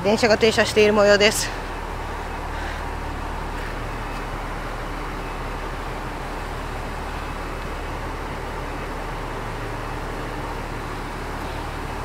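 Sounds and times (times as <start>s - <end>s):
diesel railcar engines idling: 0.0s - 12.0s.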